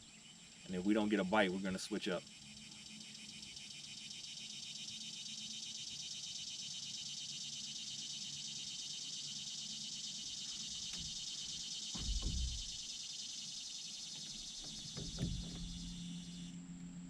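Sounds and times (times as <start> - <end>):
faint low hum: 0.0 - 17.0
insects trilling: 0.0 - 17.0.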